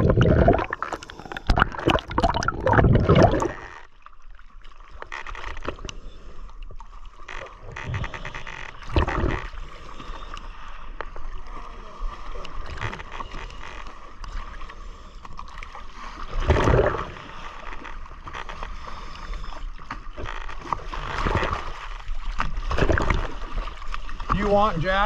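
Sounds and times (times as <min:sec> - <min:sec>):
sea water sloshing and splashing: 0:00.0 - 0:25.0.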